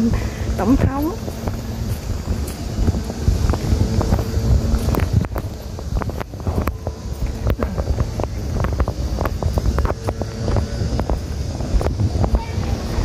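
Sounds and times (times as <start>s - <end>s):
footsteps on stone paving: 0.0s - 13.0s
wind buffeting microphone: 0.0s - 13.0s.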